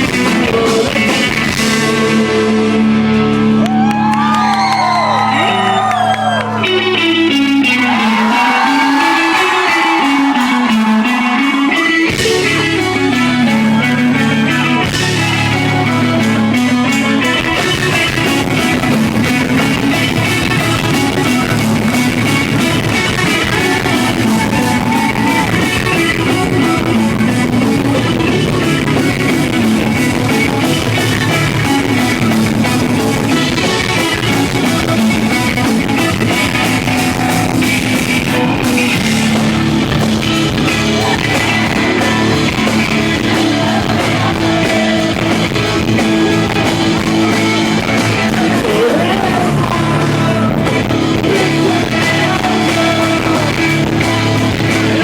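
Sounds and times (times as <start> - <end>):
live rock band playing: 0.0 - 55.0
bent guitar notes: 5.1 - 55.0.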